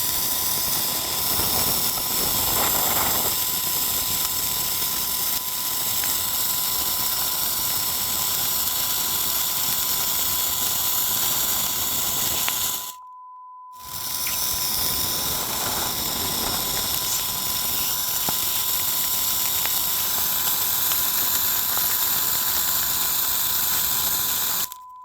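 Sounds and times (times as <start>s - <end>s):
firework crackling sparks: 0.0s - 13.0s, 13.8s - 24.8s.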